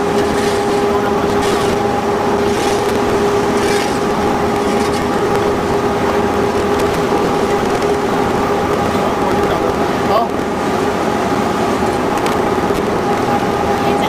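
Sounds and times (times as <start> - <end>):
belt conveyor carrying sand: 0.0 - 14.0
constant hum: 0.0 - 14.0
factory motors running: 0.0 - 14.0.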